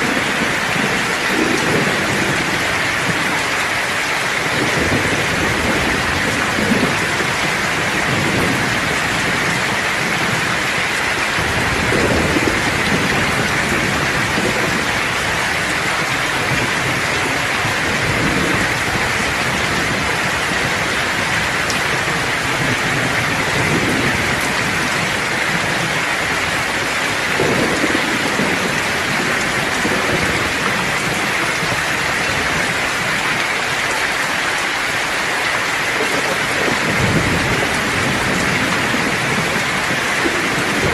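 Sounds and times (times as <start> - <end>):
heavy rain downpour: 0.0 - 40.9
low thunder rumbling: 0.0 - 40.9.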